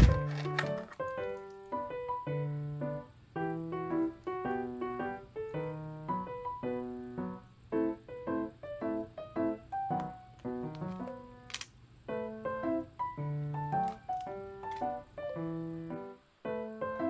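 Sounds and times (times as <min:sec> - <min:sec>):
soft piano melody: 0:00.0 - 0:17.0.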